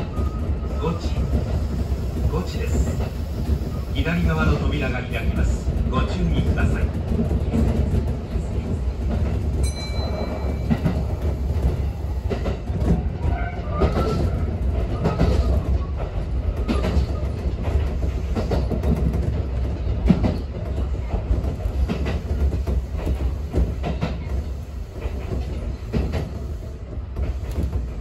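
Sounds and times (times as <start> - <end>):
train wheels rumbling on rails: 0.0 - 28.0
rail-joint clicks: 1.0 - 28.0.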